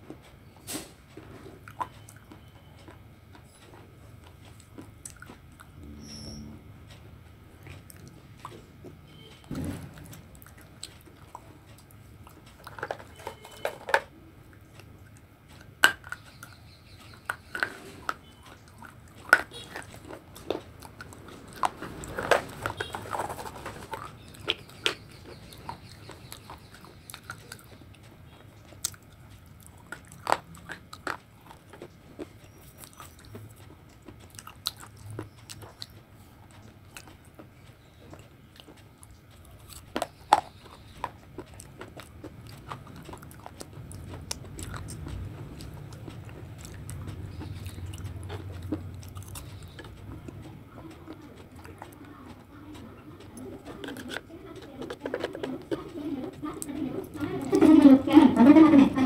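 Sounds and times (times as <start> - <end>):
chewing: 0.0 - 59.0
close-up biting and crunching: 0.2 - 6.0, 7.6 - 59.0.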